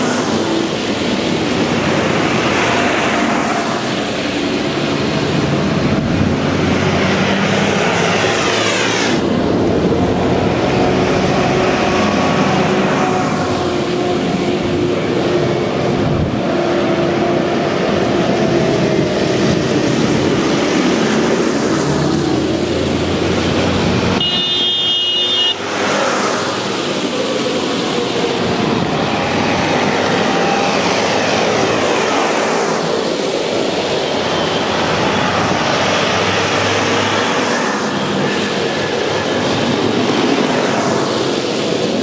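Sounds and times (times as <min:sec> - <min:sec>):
tractor engines driving past: 0:00.0 - 0:42.0.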